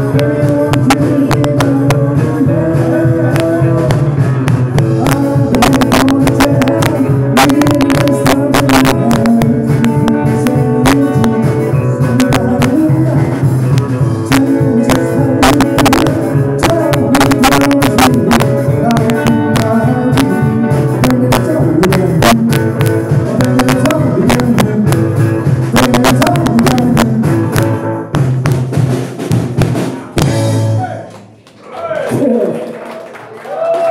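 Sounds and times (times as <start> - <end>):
live rock band playing: 0.0 - 31.3.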